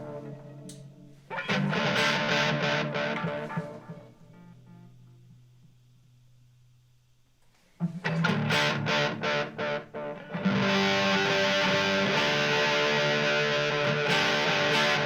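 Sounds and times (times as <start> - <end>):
electric guitar chords with delay: 0.0 - 5.5, 7.9 - 15.0.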